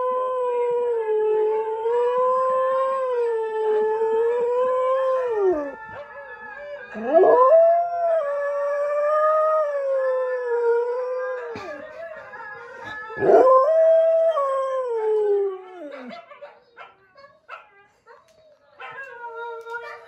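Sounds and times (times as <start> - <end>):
dog howling: 0.0 - 16.9, 18.8 - 20.0.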